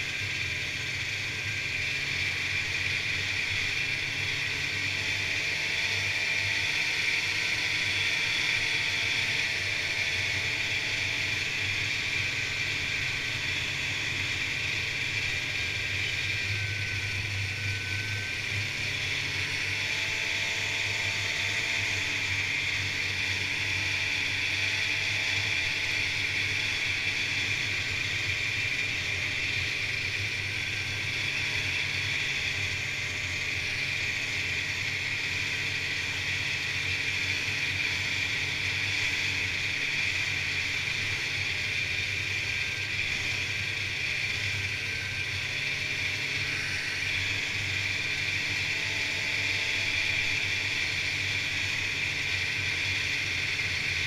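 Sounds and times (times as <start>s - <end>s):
snowmobile engine running: 0.0s - 54.0s
snowmobile track whirring: 0.0s - 54.0s.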